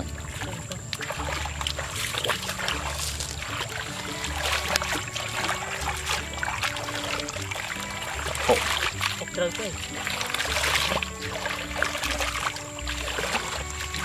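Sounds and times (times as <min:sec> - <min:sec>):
background music with bass pulse: 0:00.0 - 0:14.0
hands splashing in muddy water: 0:00.0 - 0:14.0.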